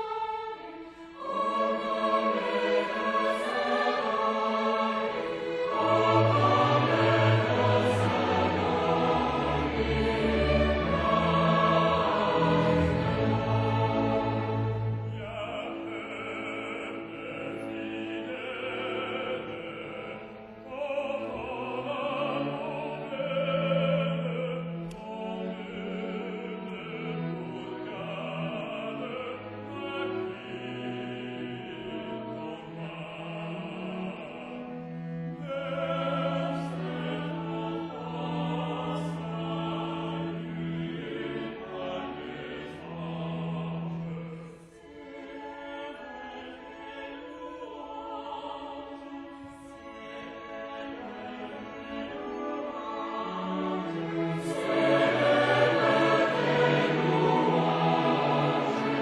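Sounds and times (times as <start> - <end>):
mixed choir singing a carol: 0.0 - 59.0
string orchestra: 0.0 - 59.0.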